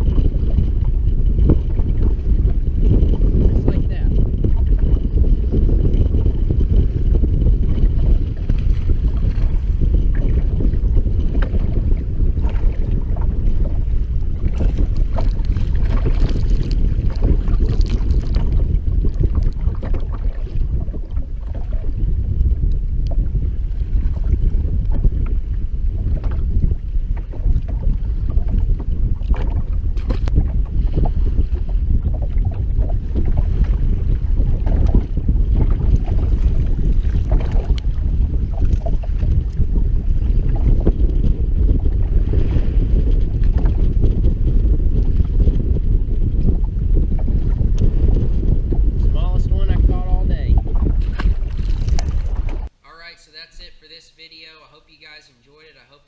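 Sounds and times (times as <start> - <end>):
wind buffeting microphone: 0.0 - 52.8.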